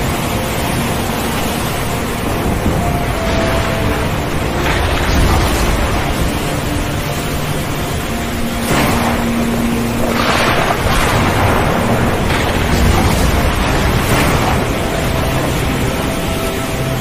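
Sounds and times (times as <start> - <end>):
wind and surf rushing: 0.0 - 17.0.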